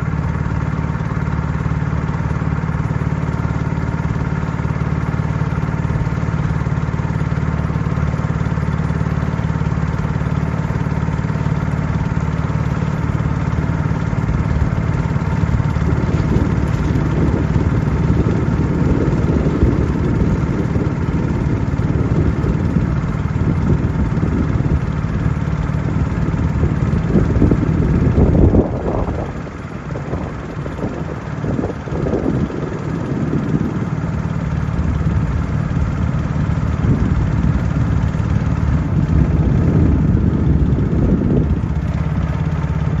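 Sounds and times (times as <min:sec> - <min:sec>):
motorboat engine running: 0:00.0 - 0:43.0.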